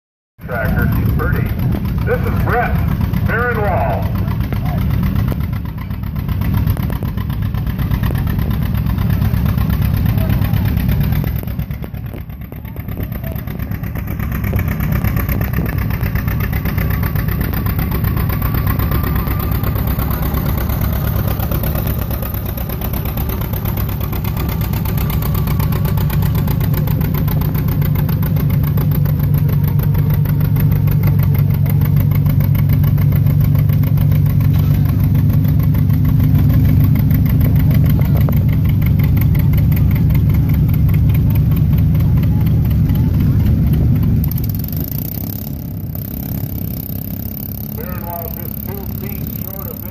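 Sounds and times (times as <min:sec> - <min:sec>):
tractor engine droning: 0:00.4 - 0:49.9.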